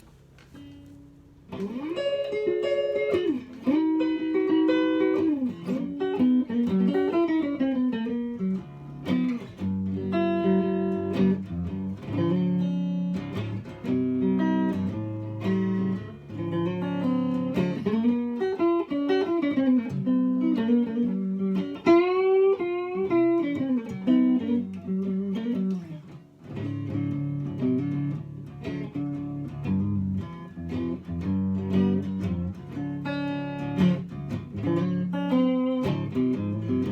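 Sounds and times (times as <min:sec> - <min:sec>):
archtop guitar improvisation: 0:00.0 - 0:36.9.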